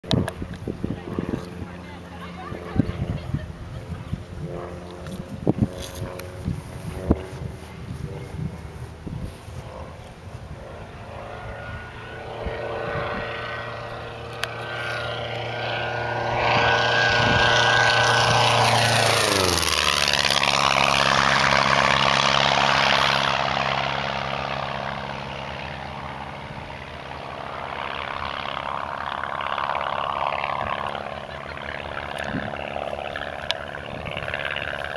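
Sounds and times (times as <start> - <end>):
light aircraft flyby: 0.0 - 34.9.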